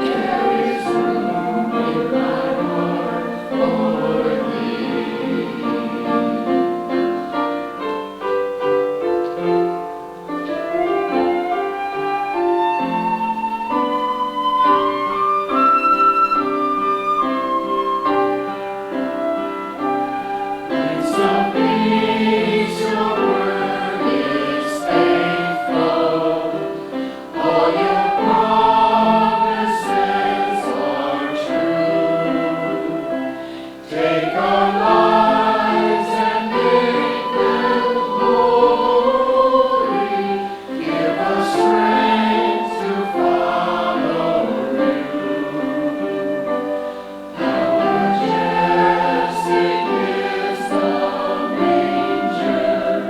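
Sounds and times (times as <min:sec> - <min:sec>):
choir singing: 0:00.0 - 0:08.7, 0:10.2 - 0:53.0.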